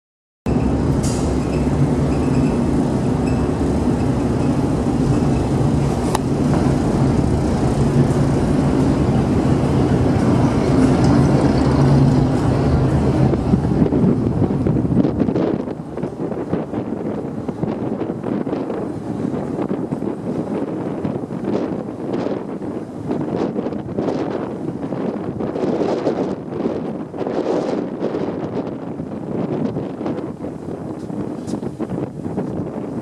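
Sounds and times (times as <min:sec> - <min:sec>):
ship engines rumbling: 0:00.5 - 0:33.0.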